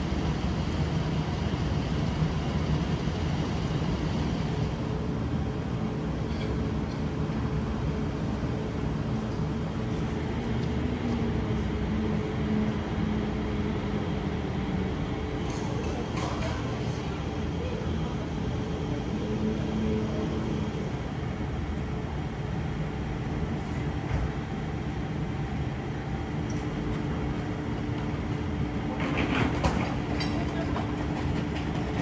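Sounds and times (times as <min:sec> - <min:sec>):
low hum of traffic: 0:00.0 - 0:32.0.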